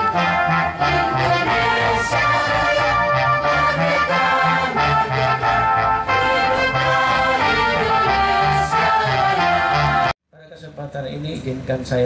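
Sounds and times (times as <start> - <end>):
group singing an anthem: 0.0 - 10.1
music over loudspeakers: 0.0 - 10.1.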